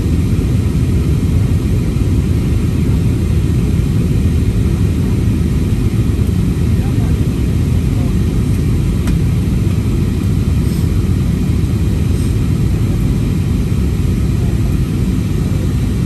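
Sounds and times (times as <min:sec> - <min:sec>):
airliner cabin roar: 0:00.0 - 0:16.0.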